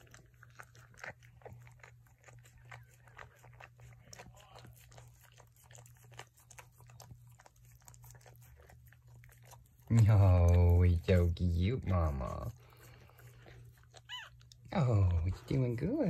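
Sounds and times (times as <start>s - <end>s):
dog licking puppy: 0.0s - 16.0s.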